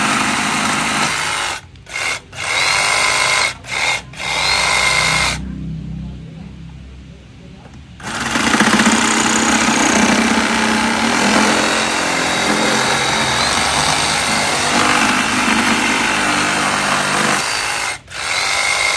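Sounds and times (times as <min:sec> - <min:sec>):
reciprocating saw cutting wood: 0:00.0 - 0:05.4, 0:08.0 - 0:18.9.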